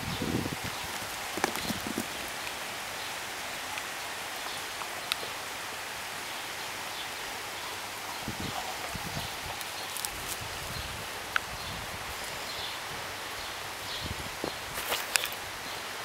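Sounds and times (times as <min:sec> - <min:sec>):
light rain falling: 0:00.0 - 0:16.0.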